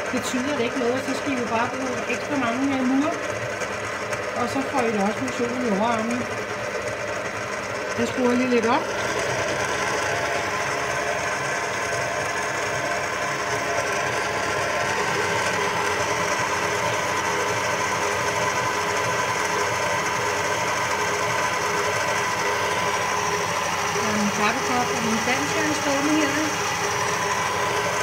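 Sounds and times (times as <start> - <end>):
stand mixer motor whining: 0.0 - 28.0.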